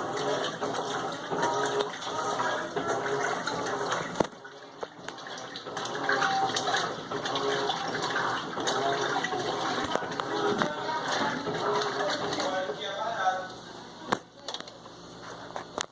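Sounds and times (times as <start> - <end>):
water sloshing in washing machine: 0.0 - 14.4.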